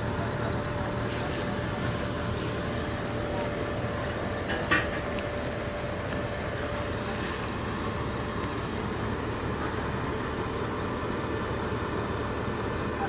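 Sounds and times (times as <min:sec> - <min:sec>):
heavy diesel engine rumbling: 0:00.0 - 0:13.0.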